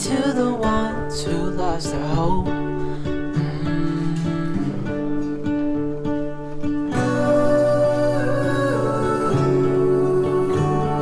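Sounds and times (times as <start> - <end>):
acoustic guitar song: 0.0 - 11.0.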